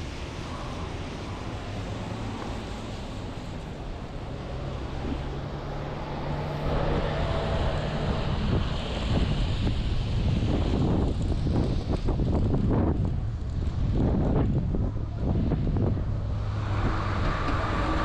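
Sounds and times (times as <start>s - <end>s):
wind buffeting microphone: 2.5s - 18.0s
steady low rumble: 2.9s - 18.0s.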